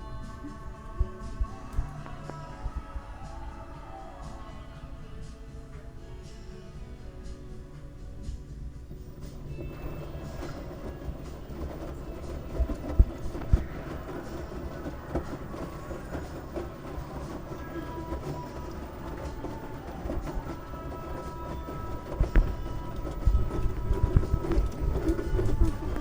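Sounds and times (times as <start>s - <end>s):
washing machine drum rumbling: 0.0s - 26.0s.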